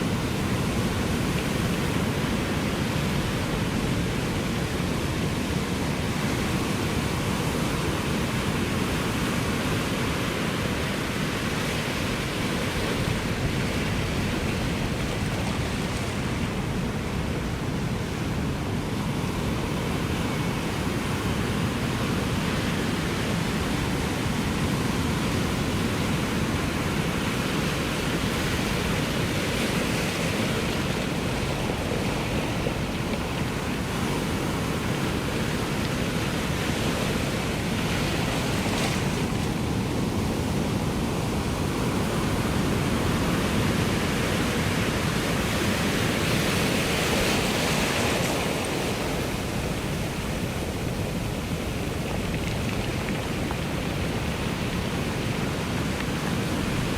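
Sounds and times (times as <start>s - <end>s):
ocean surf rolling onto shore: 0.0s - 56.9s.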